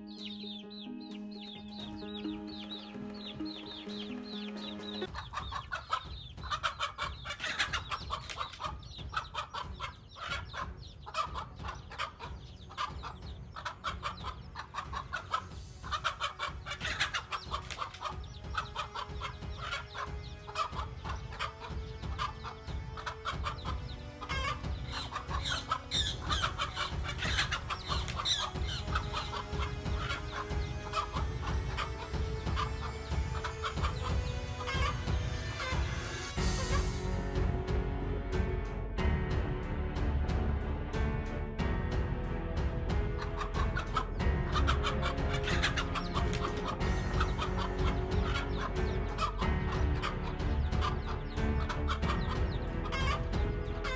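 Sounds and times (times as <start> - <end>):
chickens clucking and squawking: 0.0 - 37.1, 43.1 - 53.9.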